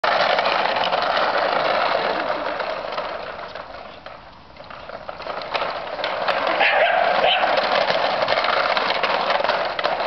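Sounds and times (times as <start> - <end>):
chain scraping: 0.0 - 10.0
trolley wheels rattling on concrete: 0.0 - 10.0.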